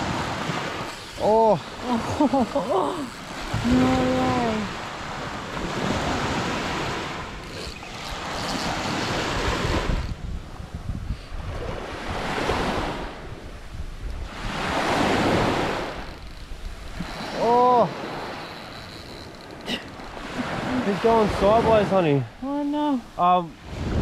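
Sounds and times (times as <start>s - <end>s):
sea waves washing in: 0.0s - 24.0s
wind on microphone: 0.0s - 24.0s.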